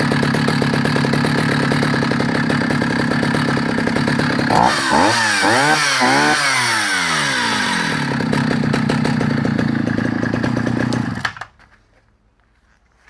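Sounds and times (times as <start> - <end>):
chainsaw idling and revving: 0.0 - 11.6.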